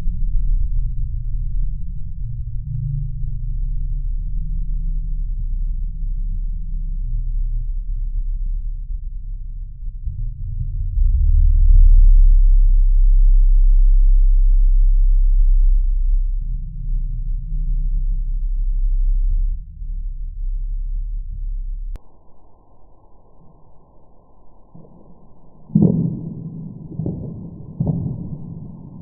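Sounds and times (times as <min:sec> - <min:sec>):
deep low bass drone: 0:00.0 - 0:29.0.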